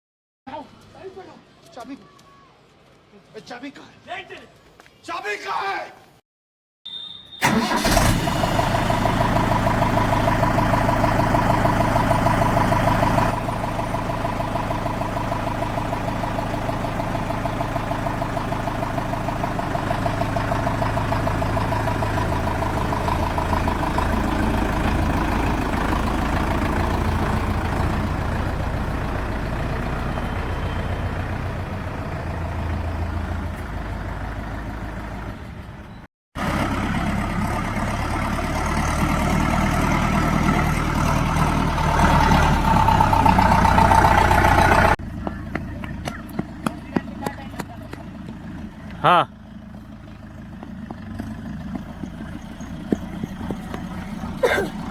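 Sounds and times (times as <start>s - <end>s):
diesel tractor engine running: 7.4s - 54.9s.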